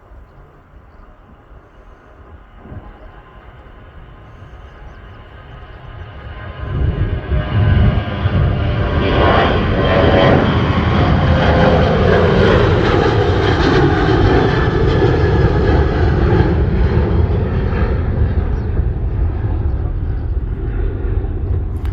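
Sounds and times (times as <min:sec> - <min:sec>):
jet engines roaring: 0:00.1 - 0:21.9.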